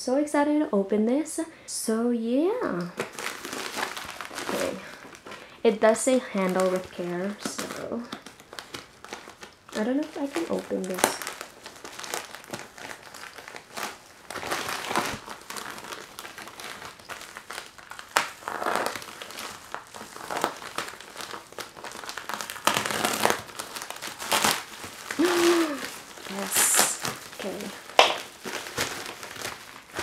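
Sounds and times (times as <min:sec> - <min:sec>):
plastic mailer crinkling: 0:02.8 - 0:30.0.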